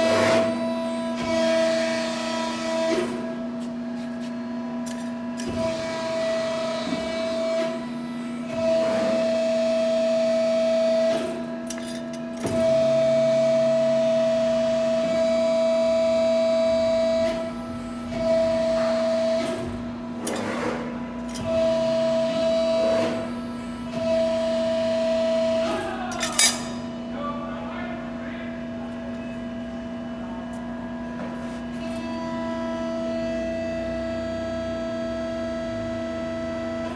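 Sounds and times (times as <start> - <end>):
hydraulic pump hum: 0.0 - 36.9.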